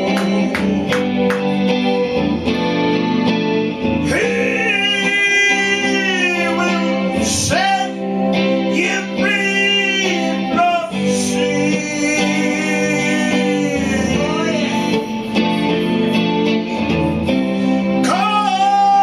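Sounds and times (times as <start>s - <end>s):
person singing long gliding notes: 0.0s - 2.5s, 3.8s - 19.0s
guitar accompaniment: 0.0s - 19.0s.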